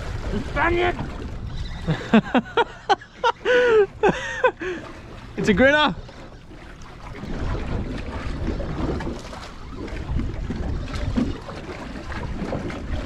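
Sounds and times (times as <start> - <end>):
water sloshing around boat: 0.0 - 13.0
wind buffeting microphone: 0.0 - 13.0.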